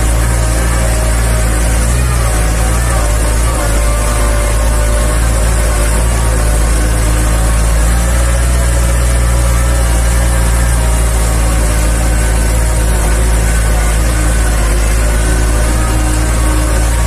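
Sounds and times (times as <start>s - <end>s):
tractor engine running: 0.0s - 17.0s
tyres churning through water: 0.0s - 17.0s.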